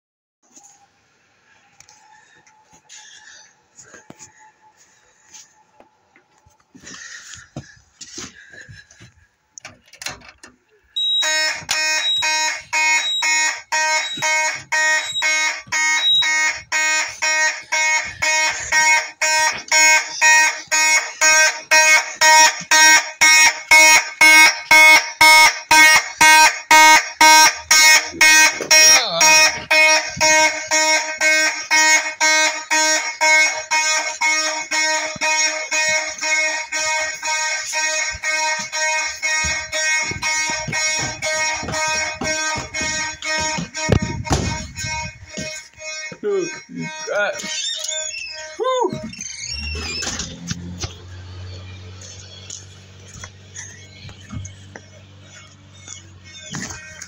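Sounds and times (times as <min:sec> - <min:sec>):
fire alarm horn pulsing: 0:10.9 - 0:57.0.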